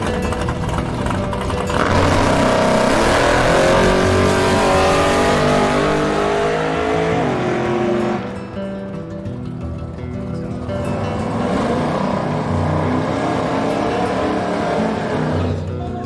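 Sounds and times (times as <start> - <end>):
drag car engine at full throttle: 0.0 - 9.0, 10.9 - 15.6.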